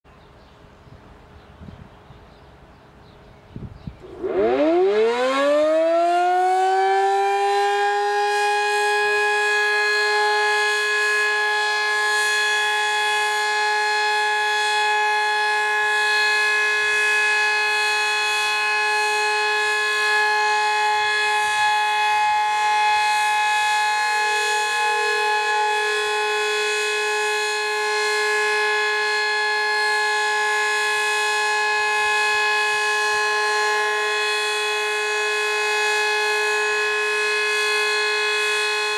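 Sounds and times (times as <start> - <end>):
warning siren two-note tone: 4.0 - 38.9.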